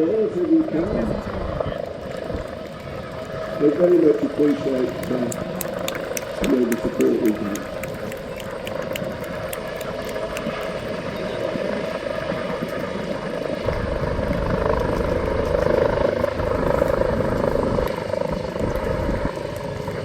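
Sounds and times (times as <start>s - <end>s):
helicopter rotor and engine drone: 0.0s - 20.0s.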